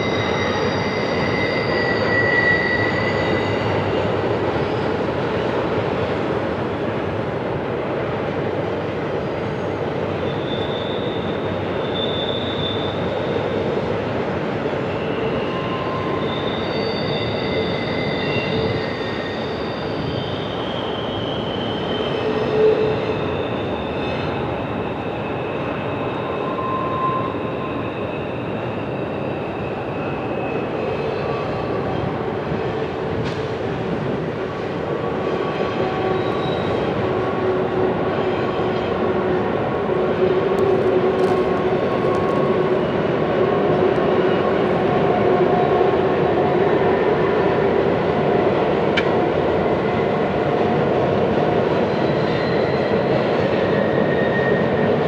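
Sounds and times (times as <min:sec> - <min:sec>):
freight train rolling by: 0:00.0 - 0:55.0.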